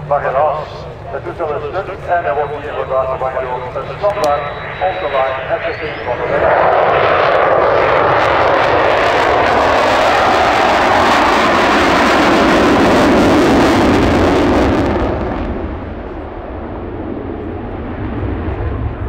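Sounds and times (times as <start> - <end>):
jet passing in afterburner: 0.0 - 19.0.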